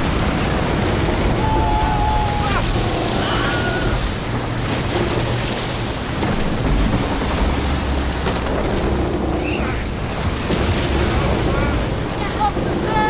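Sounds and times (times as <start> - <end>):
deep rumble: 0.0 - 13.0
driving rain and spray: 0.0 - 13.0
rushing wind: 0.0 - 13.0.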